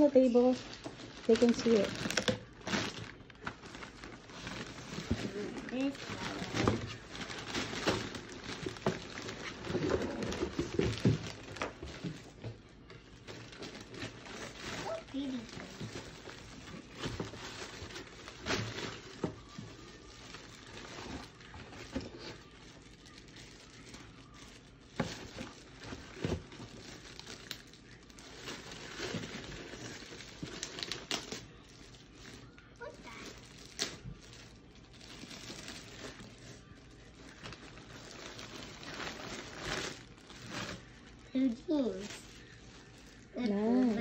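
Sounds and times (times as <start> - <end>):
plastic bag crinkling: 0.0 - 44.0.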